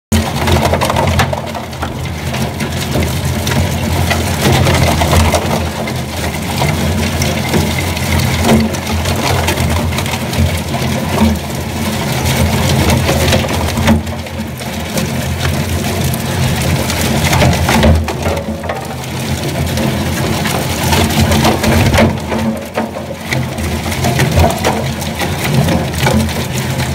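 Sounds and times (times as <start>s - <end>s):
shredder cracking and crunching: 0.1s - 26.9s.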